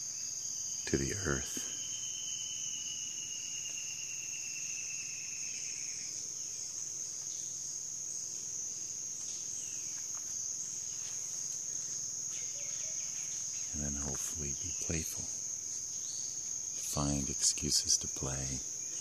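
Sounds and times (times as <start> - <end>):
high-pitched insect chorus: 0.0 - 19.0
lower insect tone: 0.0 - 19.0.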